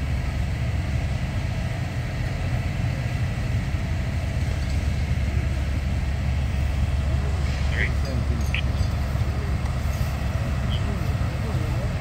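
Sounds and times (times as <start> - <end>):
fire engines running: 0.0 - 12.0.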